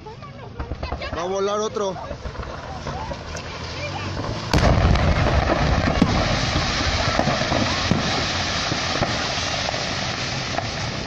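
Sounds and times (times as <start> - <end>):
fireworks crackling and popping: 0.0 - 11.0
heavy explosion blast: 0.6 - 11.0.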